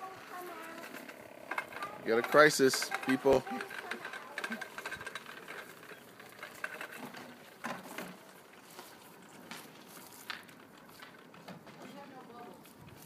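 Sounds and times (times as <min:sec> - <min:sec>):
toy lawn mower rattling: 0:00.0 - 0:13.0.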